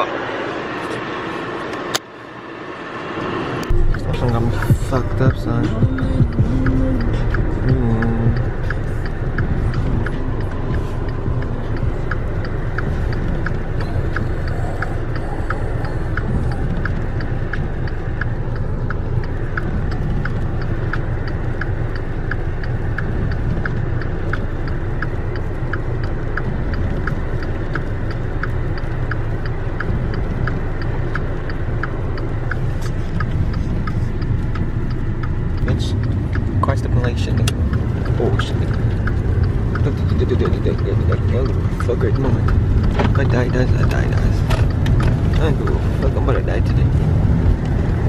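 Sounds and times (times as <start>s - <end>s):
car engine rumble: 0.0s - 48.0s
crisp regular ticking: 3.6s - 48.0s.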